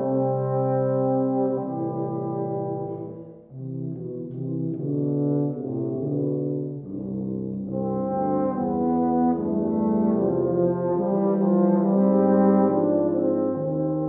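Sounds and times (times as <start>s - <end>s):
brass quartet playing chords: 0.0s - 14.0s.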